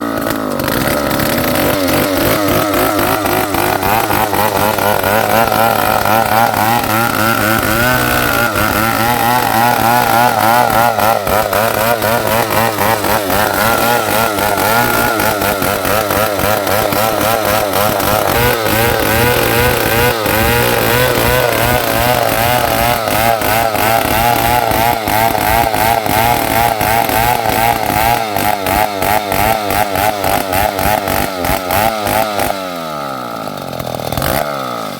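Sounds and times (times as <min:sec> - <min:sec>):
chainsaw cutting a log: 0:00.0 - 0:34.9.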